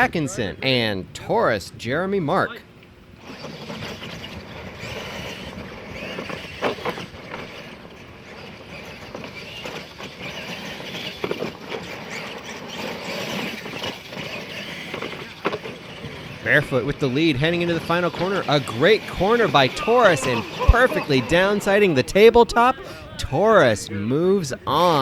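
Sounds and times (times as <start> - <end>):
radio-controlled truck motors running: 0.0 - 1.4, 2.3 - 25.0.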